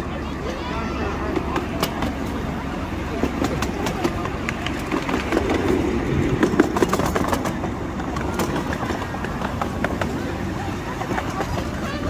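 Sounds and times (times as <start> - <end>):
miniature train rumbling: 0.0 - 12.0
wheels clattering over rail joints: 0.0 - 12.0.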